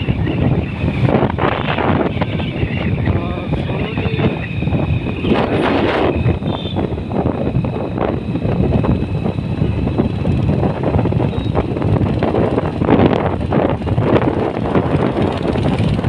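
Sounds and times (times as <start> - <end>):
road and traffic noise: 0.0 - 16.0
wind buffeting microphone: 0.0 - 16.0.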